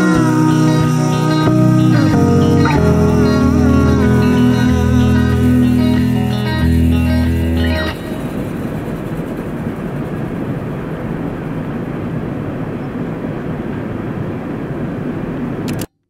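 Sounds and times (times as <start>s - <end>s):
low even outdoor rumble: 0.0s - 15.6s.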